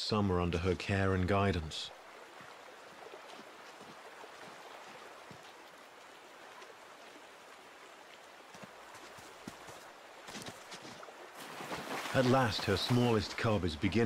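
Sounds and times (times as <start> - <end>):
water rushing over gravel: 2.3 - 14.0.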